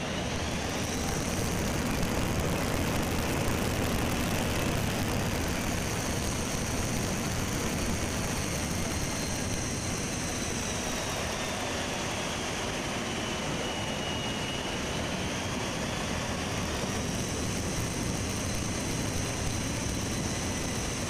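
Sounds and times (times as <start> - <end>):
faint high whine: 0.0 - 21.0
jet engines roaring: 0.0 - 21.0.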